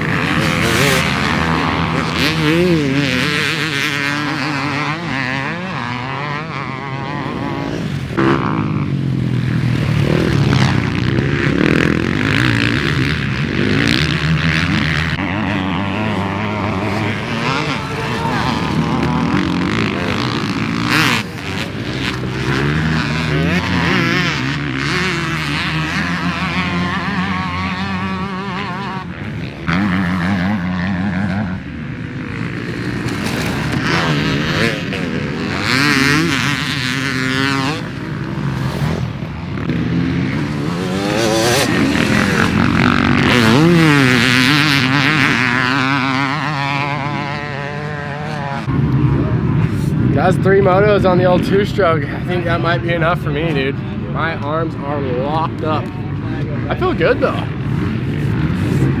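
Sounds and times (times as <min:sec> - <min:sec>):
two-stroke dirt bike revving: 0:00.0 - 0:59.0.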